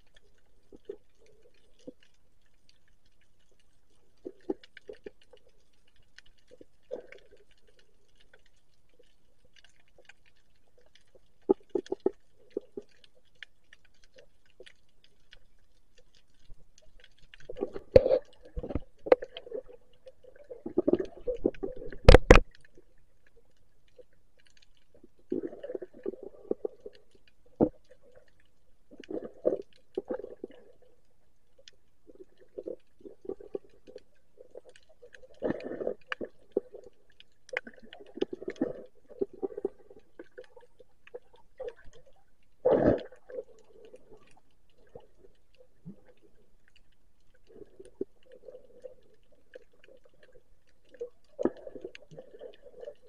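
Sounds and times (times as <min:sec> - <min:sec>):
underwater gurgling: 0:00.0 - 0:53.0.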